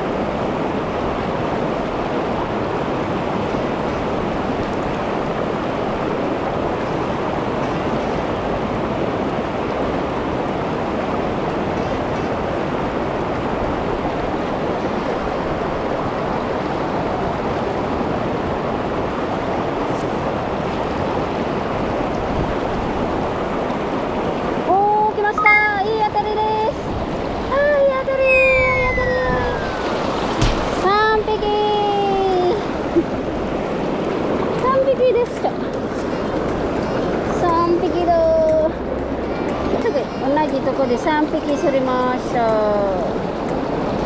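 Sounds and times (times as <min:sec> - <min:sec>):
river water rushing over rocks: 0:00.0 - 0:44.0.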